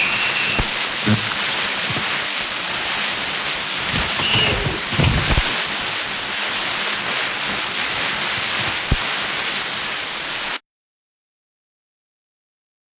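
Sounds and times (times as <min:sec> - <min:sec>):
dense turntable hiss: 0:00.0 - 0:10.6.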